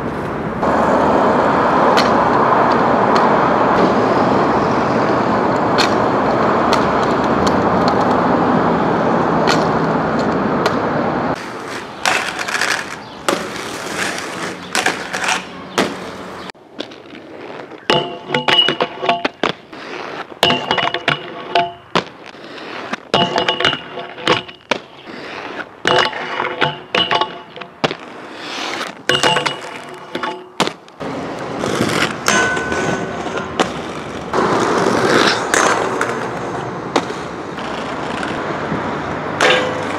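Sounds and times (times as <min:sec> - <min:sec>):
traffic noise: 0:00.0 - 0:39.9
inline skates clacking on rails: 0:01.7 - 0:39.9.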